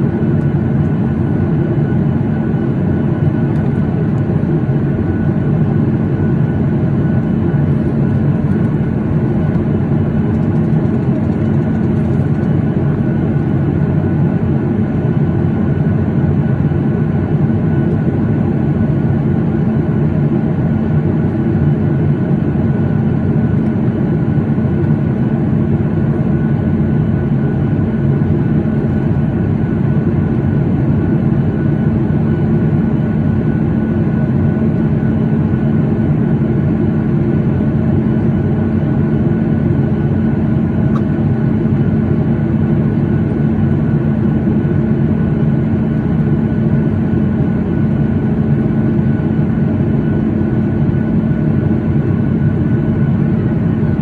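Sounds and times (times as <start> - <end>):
airplane cabin hum: 0.0 - 54.0.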